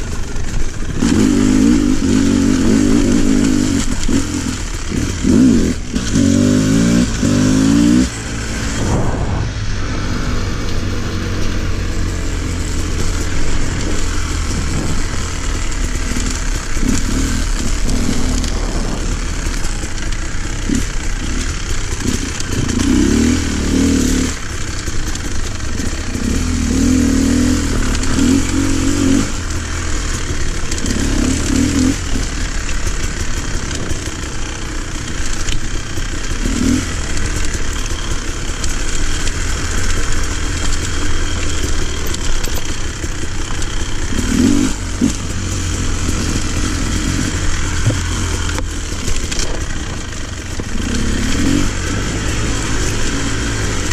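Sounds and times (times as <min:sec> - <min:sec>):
motorcycle rattling over rough ground: 0:00.0 - 0:53.9
off-road motorcycle engine revving: 0:00.0 - 0:53.9.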